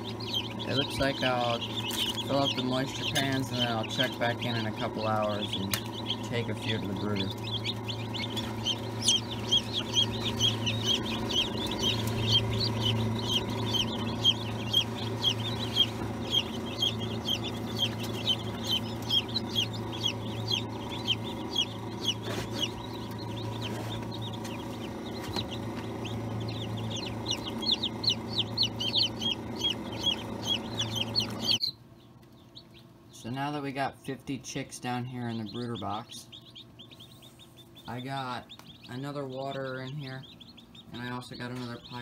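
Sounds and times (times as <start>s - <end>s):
chicks peeping: 0.0s - 42.0s
steady low hum: 0.0s - 42.0s.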